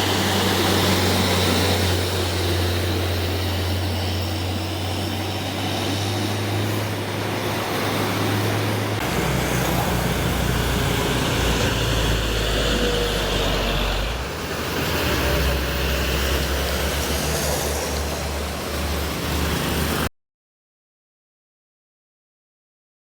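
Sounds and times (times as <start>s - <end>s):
road traffic noise: 0.0s - 20.1s
truck engines droning: 0.0s - 20.1s.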